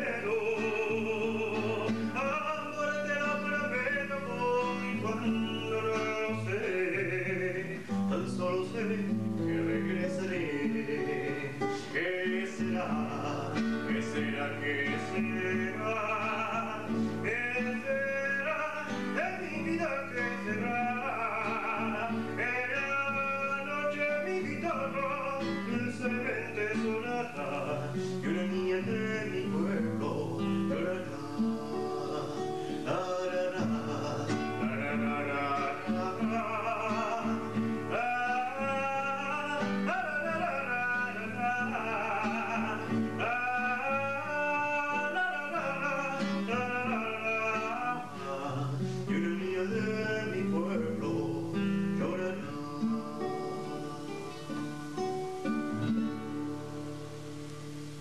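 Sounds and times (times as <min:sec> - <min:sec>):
acoustic guitar: 0:00.0 - 0:58.0
man singing with vibrato: 0:00.0 - 0:58.0.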